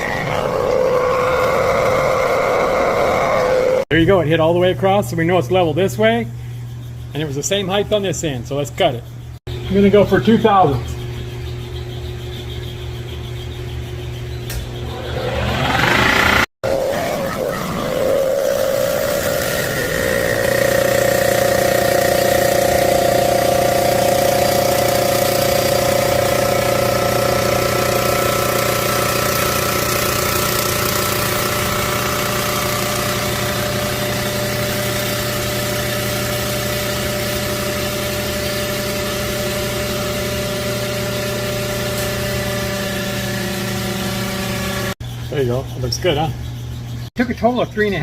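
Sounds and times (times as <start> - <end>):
surfacing machine humming: 0.0 - 45.2.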